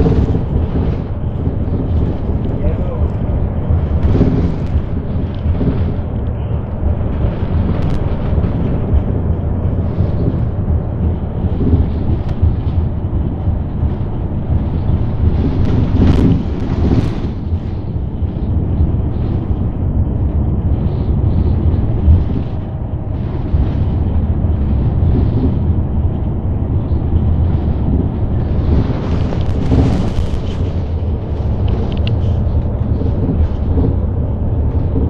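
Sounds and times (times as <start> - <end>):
bus engine rumble: 0.0 - 35.0
road noise: 0.0 - 35.0.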